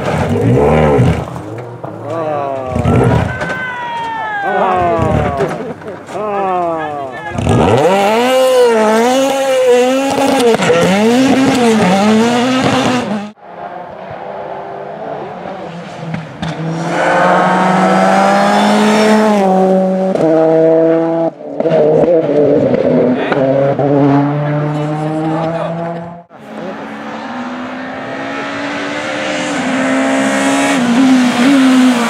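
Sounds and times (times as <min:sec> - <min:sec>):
car accelerating and downshifting: 0:00.0 - 0:03.4, 0:04.7 - 0:32.0
rally car engine revving: 0:00.0 - 0:03.4, 0:04.8 - 0:32.0.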